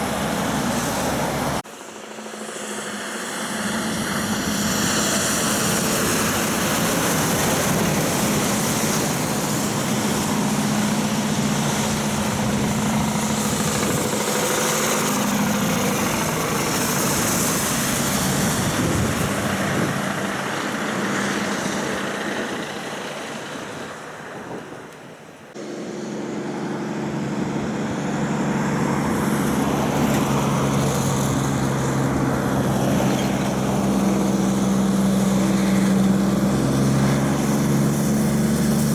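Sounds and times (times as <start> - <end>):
diesel truck engine droning: 0.0 - 38.9
truck passing with tyre hiss: 0.0 - 38.9.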